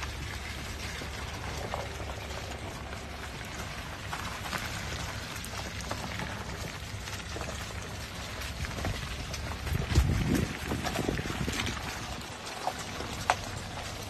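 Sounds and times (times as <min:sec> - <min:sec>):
low engine hum: 0:00.0 - 0:14.0
tyres crackling on mud: 0:00.0 - 0:14.0.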